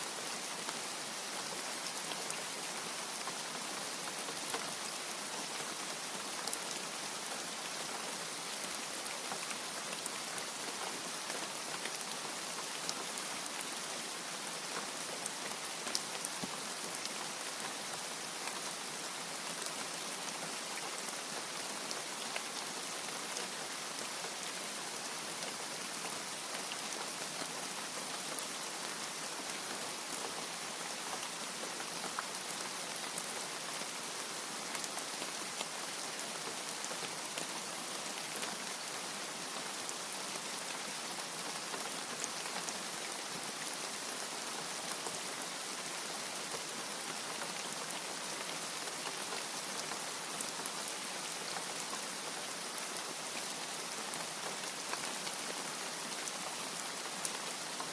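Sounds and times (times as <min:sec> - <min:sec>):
steady rain with drop ticks: 0:00.0 - 0:57.9.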